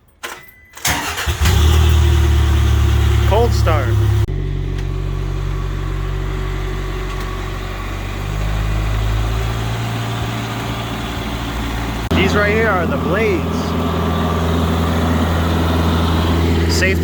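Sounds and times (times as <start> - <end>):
stump grinder engine idling: 1.1 - 17.0.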